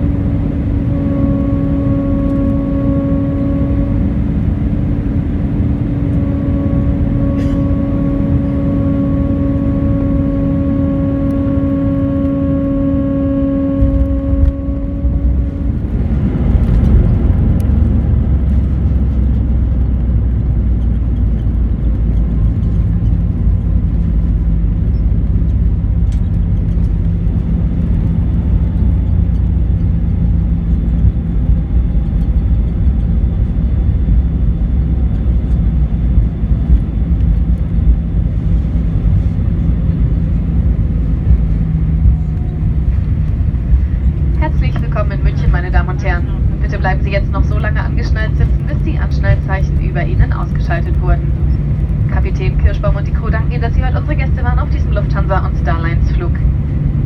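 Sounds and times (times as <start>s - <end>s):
aircraft cabin hum: 0.0s - 57.0s
aircraft rolling on runway: 0.0s - 57.0s.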